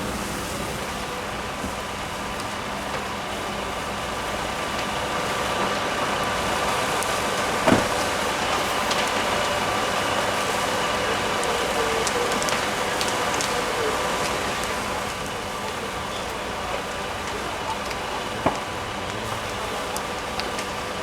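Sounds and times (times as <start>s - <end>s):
fire engine motor and pump running: 0.0s - 21.0s.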